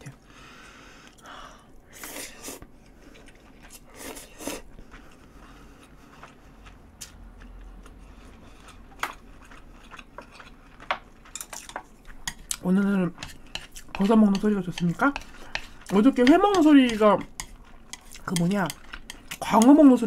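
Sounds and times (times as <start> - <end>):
quiet chewing: 2.0 - 12.6, 13.2 - 19.7.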